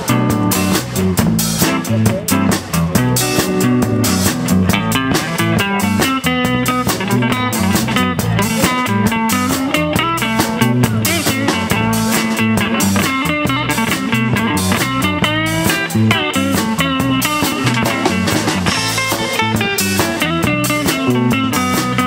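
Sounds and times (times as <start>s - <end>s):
bass line: 0.0s - 22.0s
drum kit beat: 0.0s - 22.0s
electric guitar: 0.0s - 22.0s.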